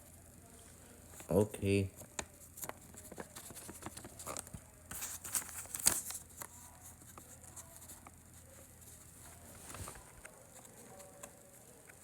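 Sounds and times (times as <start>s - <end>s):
light taps and handling noises: 1.9s - 12.0s.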